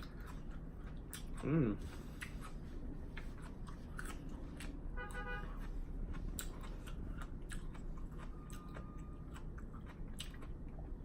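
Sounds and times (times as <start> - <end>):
chewing crunchy lettuce: 0.0 - 11.0.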